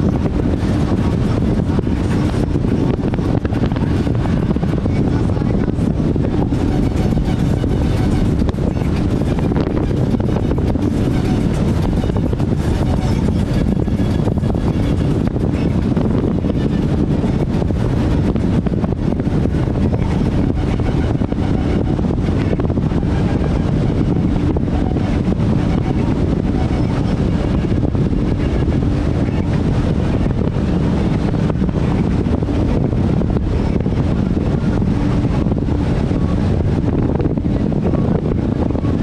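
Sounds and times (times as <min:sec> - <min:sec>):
boat engine drone: 0:00.0 - 0:39.0
hull on water: 0:00.0 - 0:39.0
wind buffeting microphone: 0:00.0 - 0:39.0.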